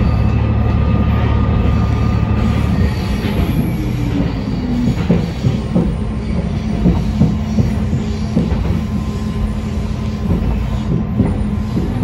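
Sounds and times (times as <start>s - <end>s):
railcar engine hum: 0.0s - 12.0s.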